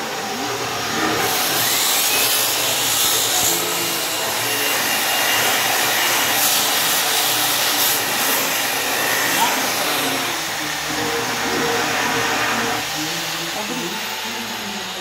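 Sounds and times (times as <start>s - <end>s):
angle polisher motor whirring: 0.0s - 15.0s
polishing pad rubbing on stone: 1.0s - 15.0s.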